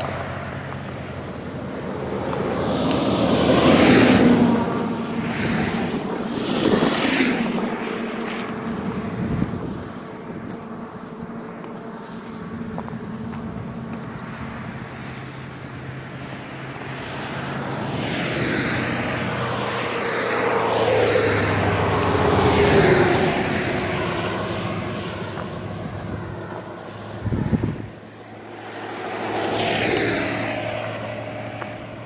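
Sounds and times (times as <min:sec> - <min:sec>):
truck passing close by: 0:00.0 - 0:32.0.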